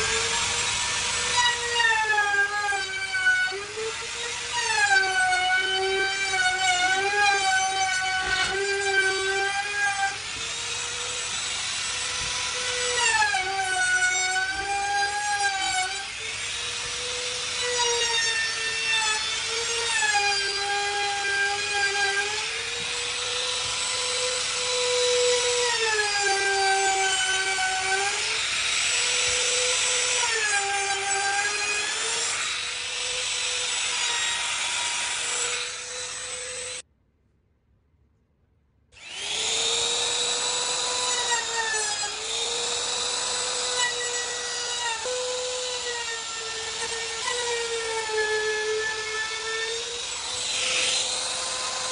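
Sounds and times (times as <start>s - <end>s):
router whining cutting wood: 0.0s - 36.8s, 39.0s - 51.9s.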